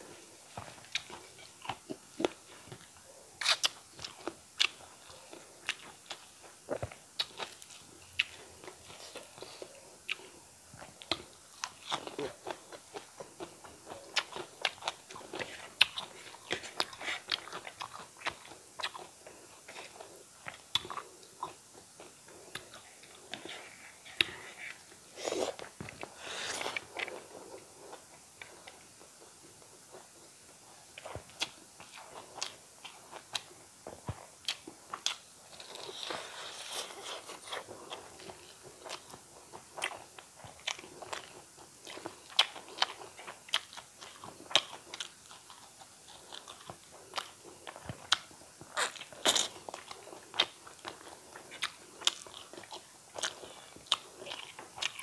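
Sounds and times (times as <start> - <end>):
chewing and crunching: 0.5 - 29.3, 30.9 - 55.0.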